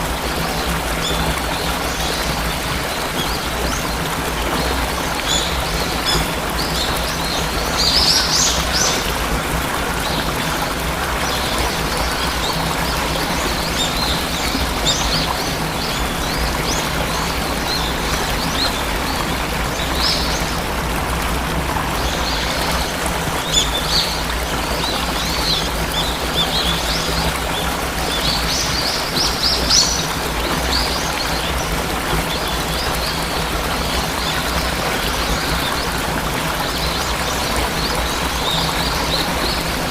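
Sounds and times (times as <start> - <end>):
birds chirping: 0.0 - 39.9
waterfall rushing: 0.0 - 39.9.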